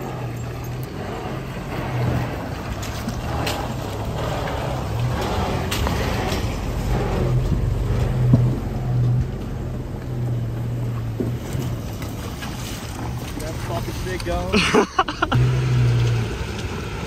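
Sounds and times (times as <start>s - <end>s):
engines running low: 0.0s - 17.0s
tyres over wet stones: 0.0s - 17.0s.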